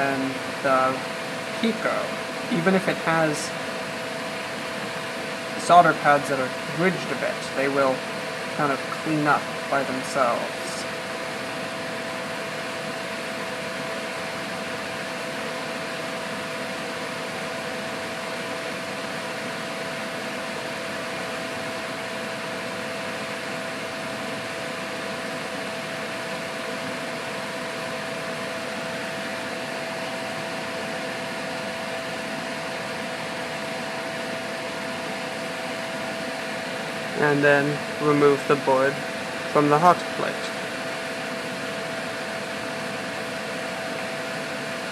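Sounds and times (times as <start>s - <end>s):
fan whirring: 0.0s - 44.9s.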